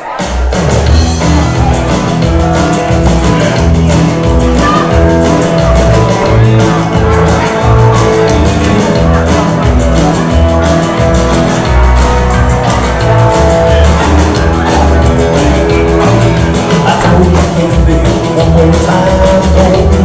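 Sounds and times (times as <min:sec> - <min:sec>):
electric guitar: 0:00.0 - 0:20.0
upright double bass: 0:00.4 - 0:20.0.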